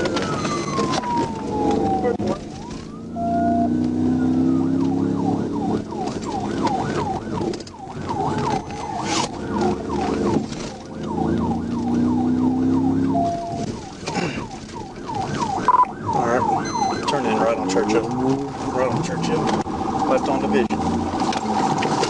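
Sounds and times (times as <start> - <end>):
vehicle engine revving: 0.0 - 13.6, 16.1 - 22.0
police siren wailing and yelping: 0.0 - 22.0.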